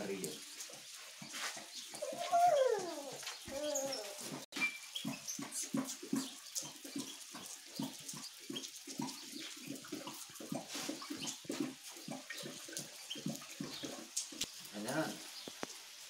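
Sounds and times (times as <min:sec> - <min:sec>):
dog lapping water: 0:00.0 - 0:15.1.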